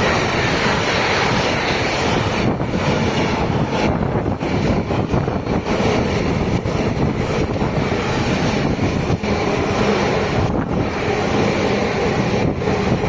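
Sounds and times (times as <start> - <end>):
train wheels rumbling on rail: 0.0 - 13.0
wind buffeting microphone: 0.0 - 13.0.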